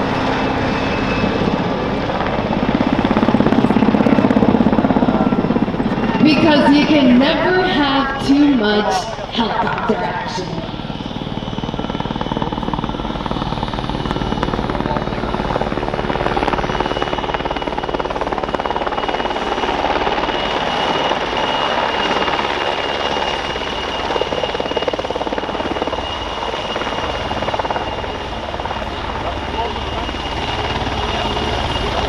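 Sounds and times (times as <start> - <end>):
helicopter rotor beating: 0.0 - 32.0
high turbine whine: 0.0 - 32.0.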